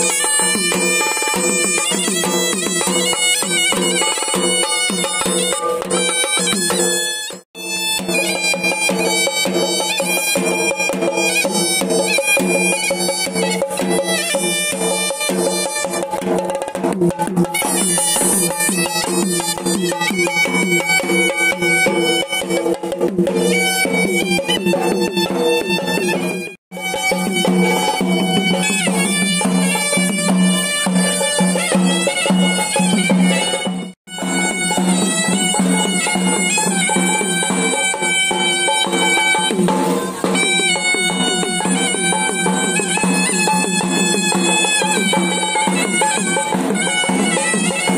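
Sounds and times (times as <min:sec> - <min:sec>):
double-reed pipe playing shrill melody: 0:00.0 - 0:16.2, 0:17.5 - 0:47.9
rapid drum strokes: 0:00.0 - 0:47.9.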